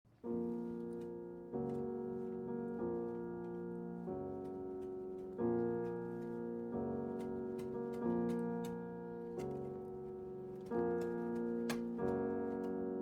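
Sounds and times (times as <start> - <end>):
slow piano chords: 0.1 - 13.0.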